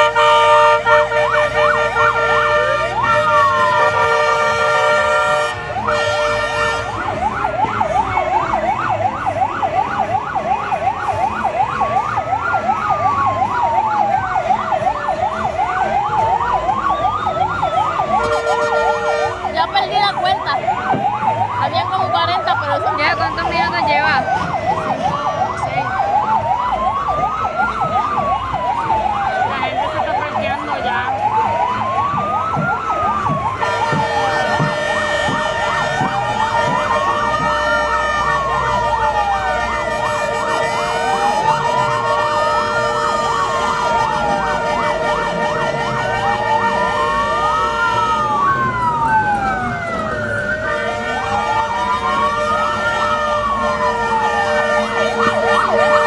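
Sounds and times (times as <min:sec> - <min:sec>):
emergency siren wailing: 0:00.0 - 0:56.0
siren yelp: 0:00.0 - 0:56.0.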